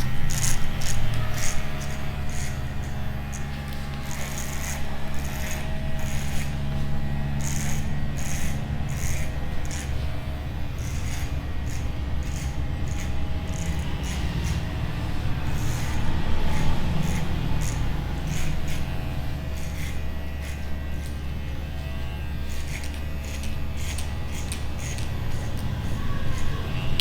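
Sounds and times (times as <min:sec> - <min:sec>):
clippers cutting through hair: 0:00.0 - 0:27.0
electric hair clippers buzzing: 0:00.0 - 0:27.0.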